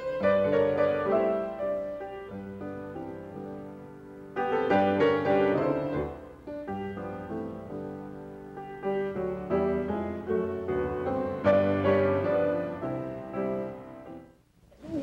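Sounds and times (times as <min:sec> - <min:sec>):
piano chords ringing: 0:00.0 - 0:14.4.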